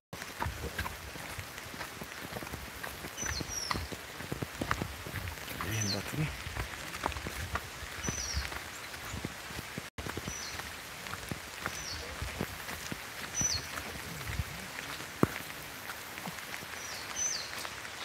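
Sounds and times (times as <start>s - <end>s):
light rain on vegetation: 0.2s - 18.0s.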